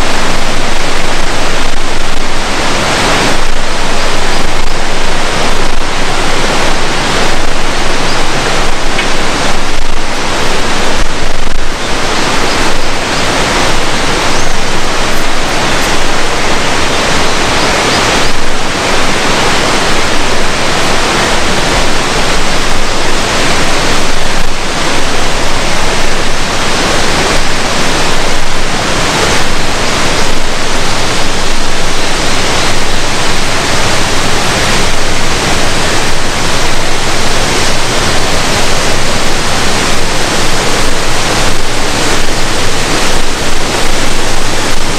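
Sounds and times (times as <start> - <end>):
falling water rushing: 0.0 - 44.9.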